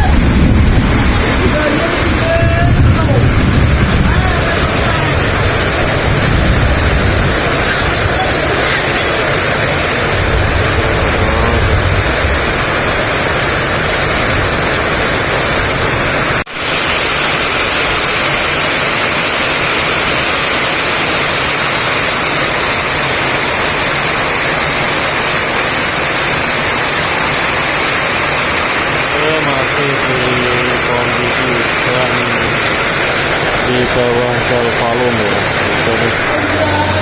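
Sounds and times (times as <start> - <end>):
heavy rain in strong wind: 0.0 - 37.0.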